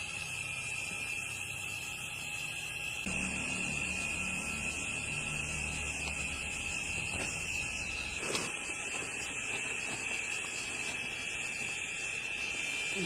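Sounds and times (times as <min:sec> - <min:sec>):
crickets chirping chorus: 0:00.0 - 0:13.0.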